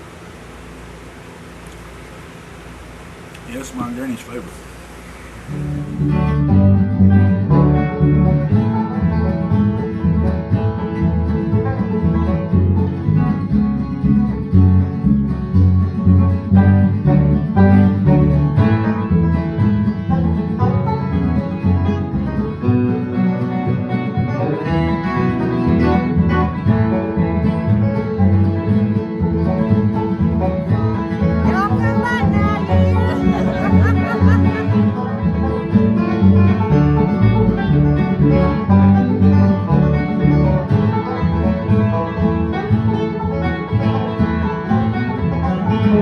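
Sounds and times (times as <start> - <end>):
bluegrass guitar and banjo music: 5.6 - 46.0.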